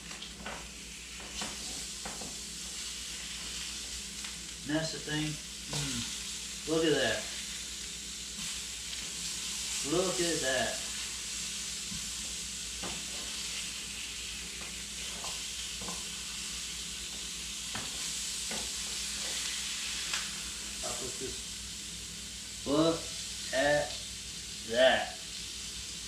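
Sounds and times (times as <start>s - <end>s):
sausages sizzling in a pan: 0.0s - 26.0s.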